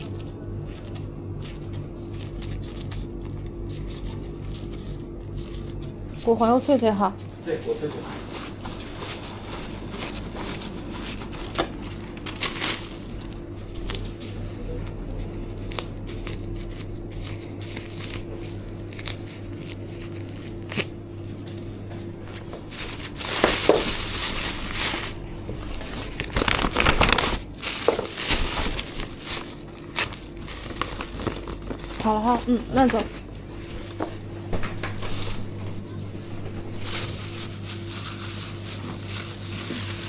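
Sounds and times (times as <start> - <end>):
plastic packaging crinkling: 0.0 - 6.8, 8.2 - 40.0
low electrical hum: 0.0 - 40.0.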